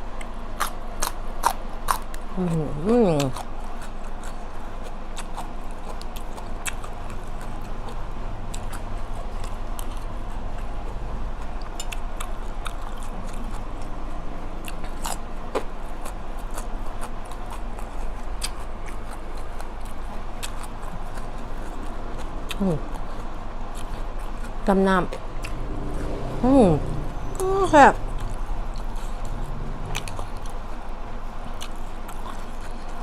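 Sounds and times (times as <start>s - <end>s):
steady low hum: 0.0s - 33.0s
person chewing: 0.1s - 14.0s, 14.6s - 25.7s, 27.1s - 33.0s.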